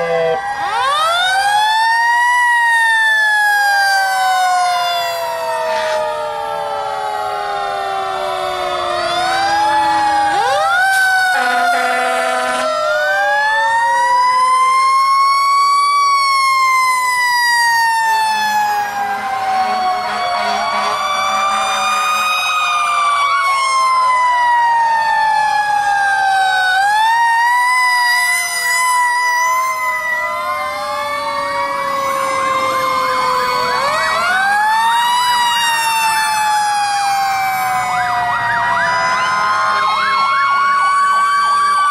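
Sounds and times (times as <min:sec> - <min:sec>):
fire truck sirens wailing: 0:00.0 - 0:41.9.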